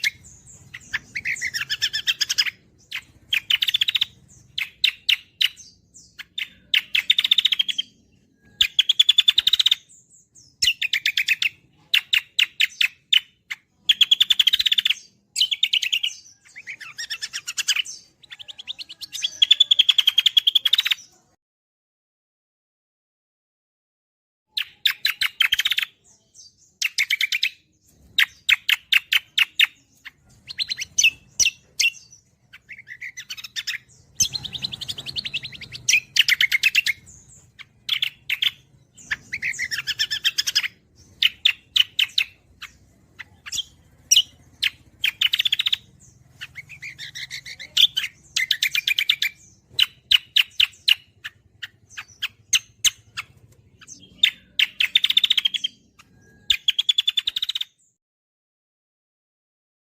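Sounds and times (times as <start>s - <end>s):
songbird singing: 0.0s - 21.4s, 24.5s - 58.0s.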